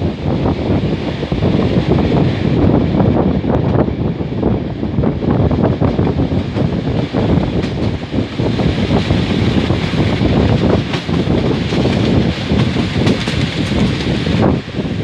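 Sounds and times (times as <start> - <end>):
passenger train running: 0.0 - 15.0
wind buffeting microphone: 0.0 - 15.0.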